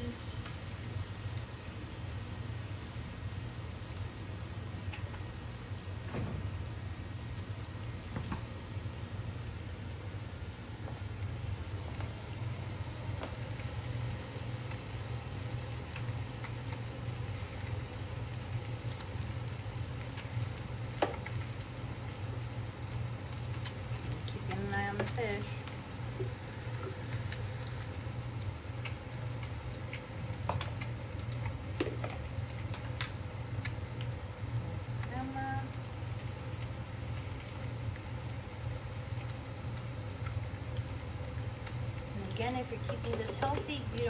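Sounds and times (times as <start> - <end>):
fish sizzling in hot oil: 0.0 - 44.0.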